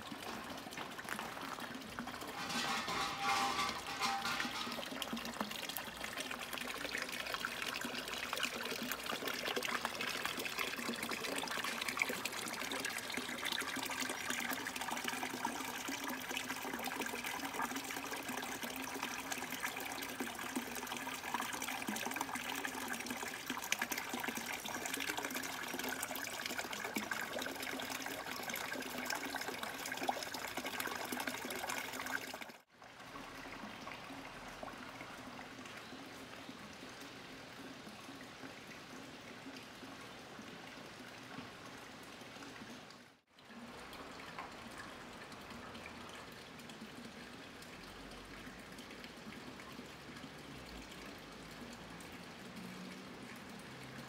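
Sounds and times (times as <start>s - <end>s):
water trickling over stone: 0.0s - 54.0s.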